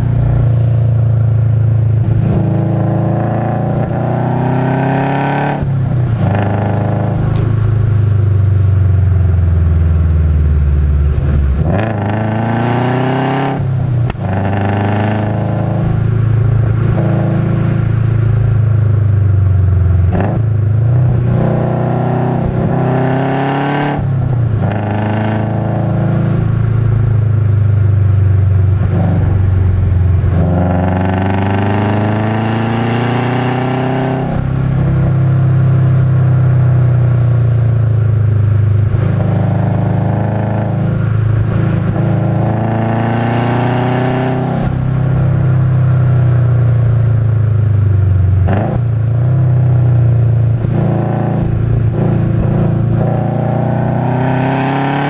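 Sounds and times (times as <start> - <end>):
turbocharged car engine accelerating: 0.0 - 55.0.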